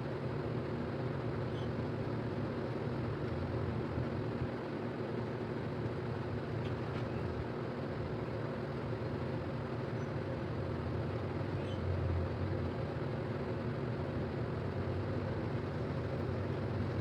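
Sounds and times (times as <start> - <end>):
low mechanical hum and rumble: 0.0 - 17.0.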